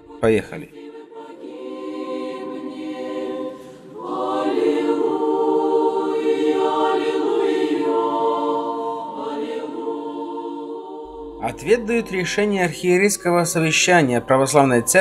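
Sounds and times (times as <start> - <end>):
choir singing chant: 0.0 - 15.0.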